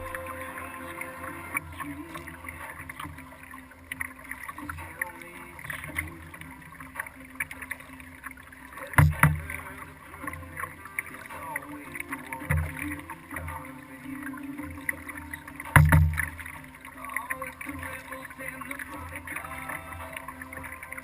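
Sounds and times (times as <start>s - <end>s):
paddle splashes: 0.0s - 21.0s
water lapping against kayak hull: 0.0s - 21.0s.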